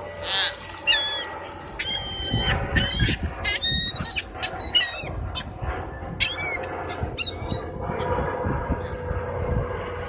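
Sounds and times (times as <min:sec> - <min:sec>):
birds squawking: 0:00.0 - 0:08.2
steady low hum: 0:00.0 - 0:10.0.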